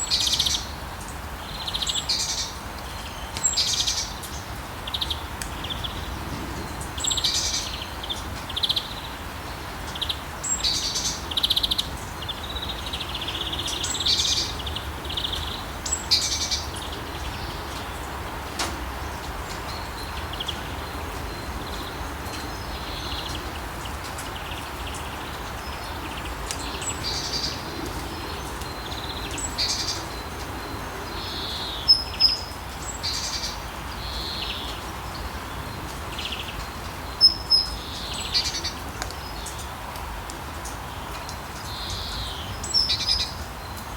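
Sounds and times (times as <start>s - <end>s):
songbirds chirping and singing: 0.0s - 39.7s
steady rain falling: 0.0s - 43.9s.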